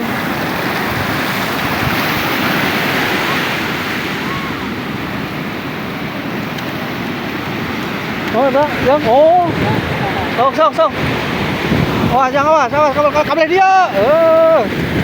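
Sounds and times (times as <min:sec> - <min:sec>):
sea surf breaking: 0:00.0 - 0:15.0.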